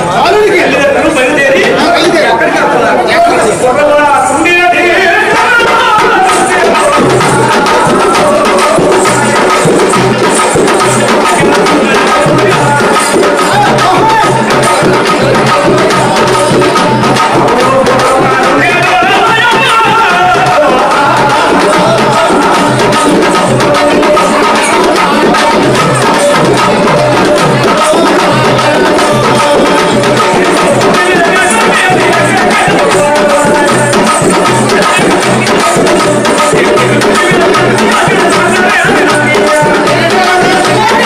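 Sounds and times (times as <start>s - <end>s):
voices singing: 0.0s - 41.0s
hand drums beating: 4.9s - 41.0s.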